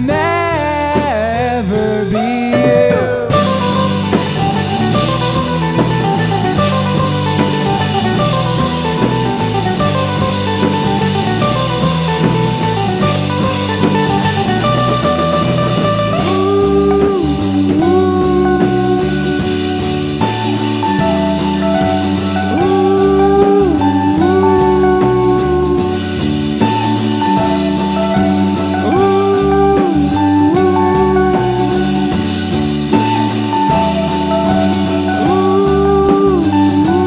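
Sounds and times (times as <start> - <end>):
rock band playing instrumental: 0.0 - 37.0.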